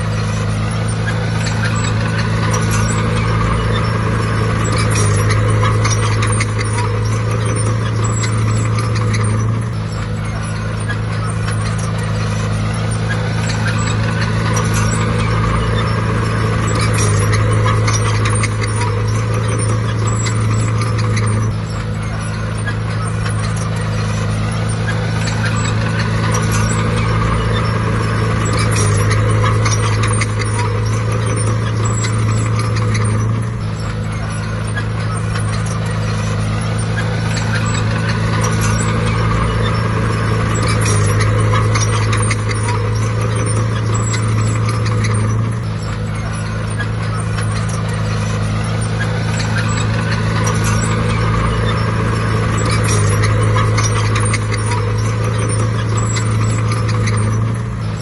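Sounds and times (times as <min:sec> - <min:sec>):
bulldozer diesel engine working: 0:00.0 - 0:58.0
small clicks and knocks: 0:00.0 - 0:58.0.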